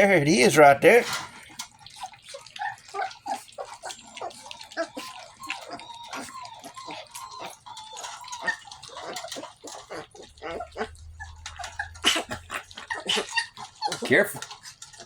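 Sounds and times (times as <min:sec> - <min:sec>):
puppies lapping food: 0:00.0 - 0:15.0
puppies whining: 0:00.0 - 0:15.0.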